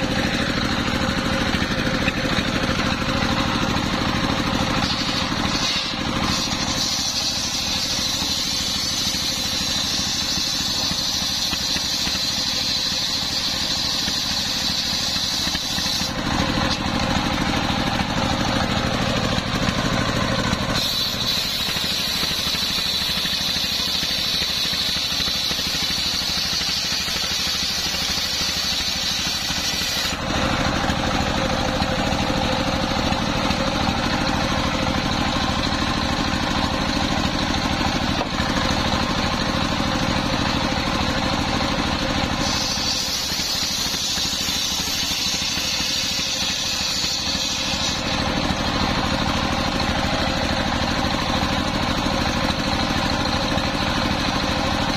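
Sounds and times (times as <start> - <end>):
circular saw cutting wood: 0.0 - 54.9
saw blade spinning free: 0.0 - 54.9
stationary engine running: 0.0 - 54.9.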